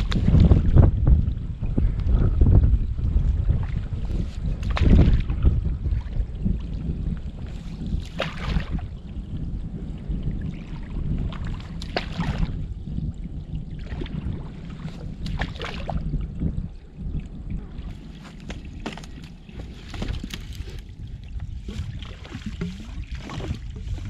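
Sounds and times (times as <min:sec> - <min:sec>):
low water rumble: 0:00.0 - 0:24.0
water sloshing and splashing: 0:03.2 - 0:24.0.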